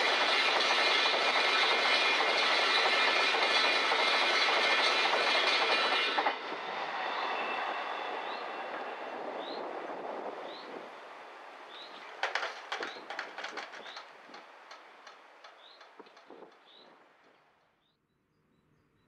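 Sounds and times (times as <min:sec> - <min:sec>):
freight train rolling past: 0:00.0 - 0:17.3.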